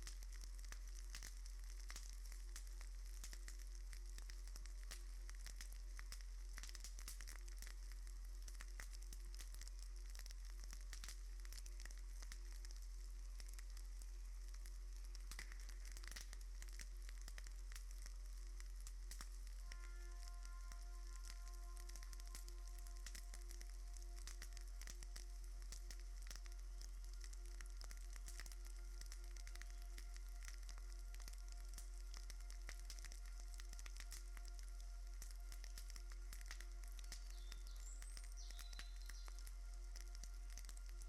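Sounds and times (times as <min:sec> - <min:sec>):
crackling and hiss: 0:00.0 - 0:41.0
small irregular clicks: 0:00.0 - 0:41.0
low hum: 0:07.4 - 0:41.0.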